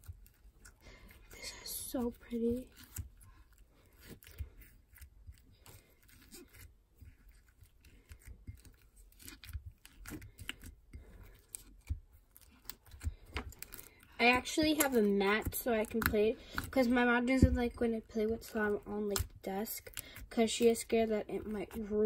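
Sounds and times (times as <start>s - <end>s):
slime clicking and crackling: 0.0s - 22.0s.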